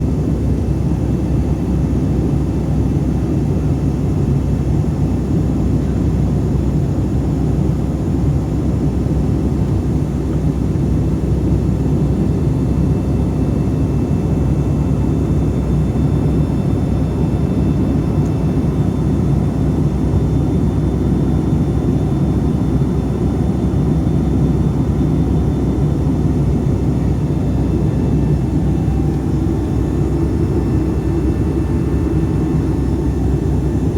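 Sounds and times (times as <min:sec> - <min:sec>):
airplane cabin engine rumble: 0:00.0 - 0:33.9.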